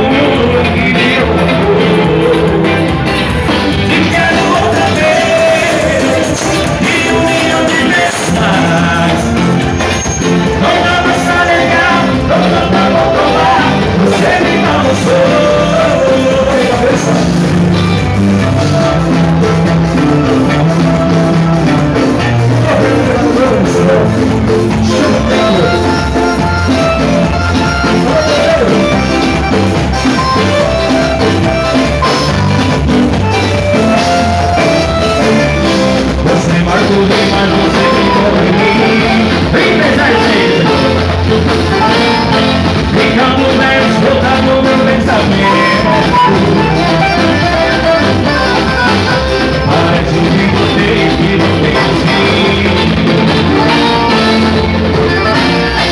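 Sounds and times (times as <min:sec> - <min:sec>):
man singing lead vocal: 0:00.0 - 0:32.4, 0:33.7 - 0:55.9
bass guitar: 0:00.0 - 0:55.9
conga drums: 0:00.0 - 0:55.9
electric guitar: 0:00.0 - 0:55.9
keyboard: 0:00.0 - 0:55.9.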